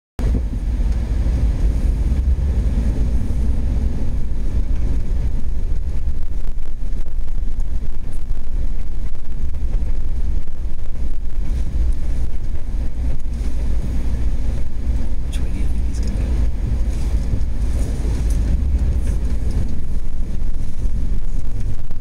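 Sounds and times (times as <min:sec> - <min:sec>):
vehicle driving rumble: 0:00.2 - 0:22.0
wind buffeting microphone: 0:00.2 - 0:22.0.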